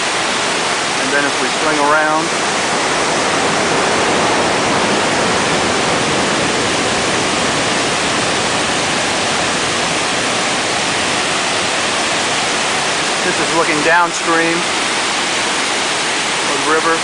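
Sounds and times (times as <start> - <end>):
floodwater rushing and roaring: 0.0 - 17.0.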